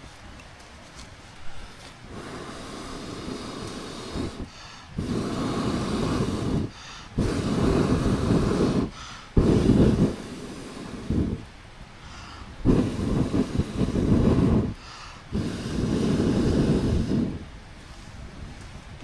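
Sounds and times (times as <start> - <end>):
person blowing into a stove: 2.1 - 18.4.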